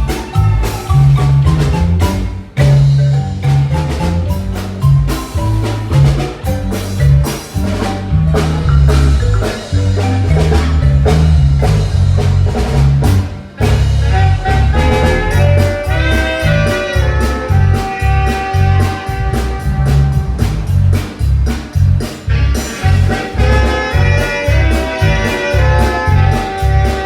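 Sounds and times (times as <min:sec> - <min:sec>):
music with pulsing bass: 0:00.0 - 0:27.0.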